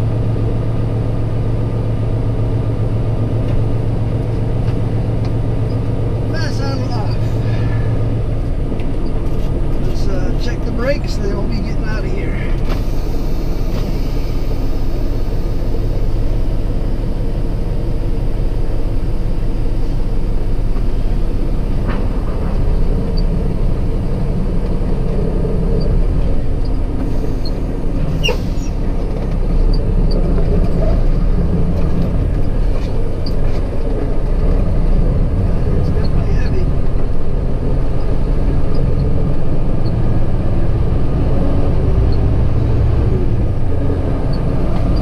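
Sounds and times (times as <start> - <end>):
truck diesel engine rumble: 0.0 - 45.0.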